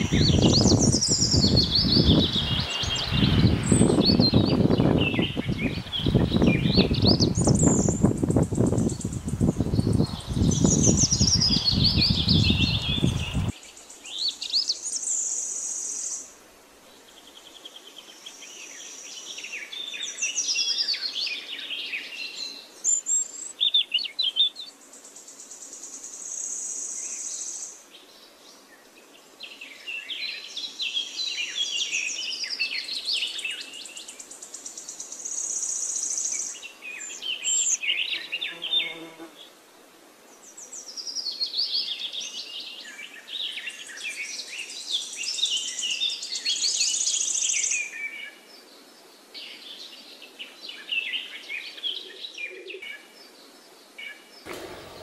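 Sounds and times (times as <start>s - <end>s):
songbird singing: 0.0s - 39.6s, 40.3s - 55.0s.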